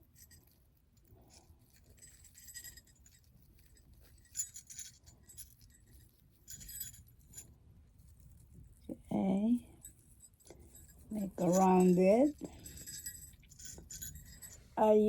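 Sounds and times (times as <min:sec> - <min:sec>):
small jingle bells jingling: 0:00.0 - 0:15.0.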